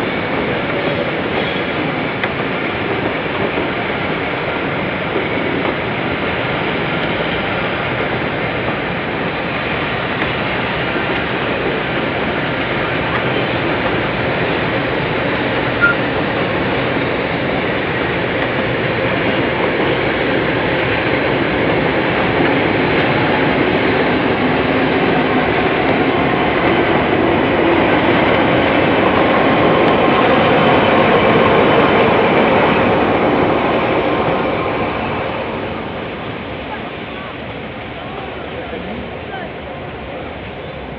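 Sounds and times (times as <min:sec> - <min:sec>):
diesel train passing: 0:00.0 - 0:40.9.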